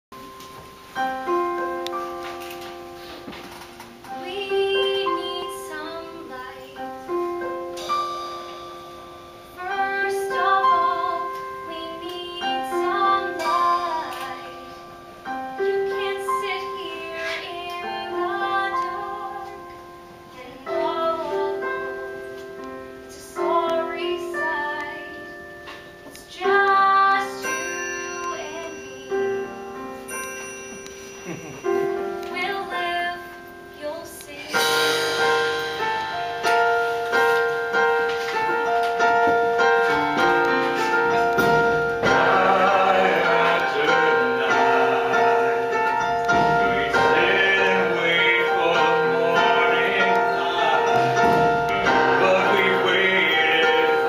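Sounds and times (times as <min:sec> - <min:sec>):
piano chords ringing: 0:00.1 - 0:54.0.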